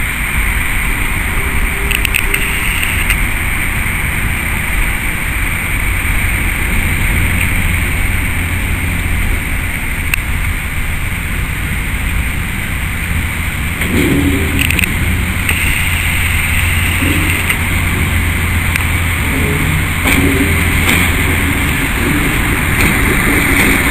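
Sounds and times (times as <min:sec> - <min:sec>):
diesel locomotive rumbling: 0:00.0 - 0:23.9.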